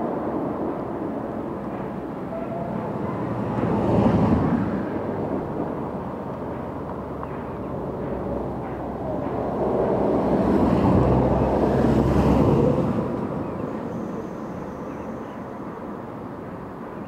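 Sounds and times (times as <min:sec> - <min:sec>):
distant steam locomotive exhaust: 0:01.0 - 0:17.0.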